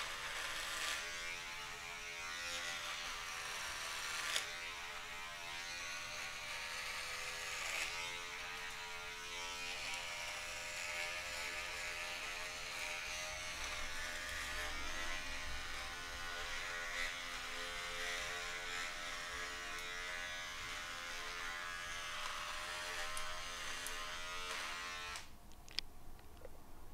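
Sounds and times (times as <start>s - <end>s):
electric beard trimmer buzzing: 0.0s - 25.3s.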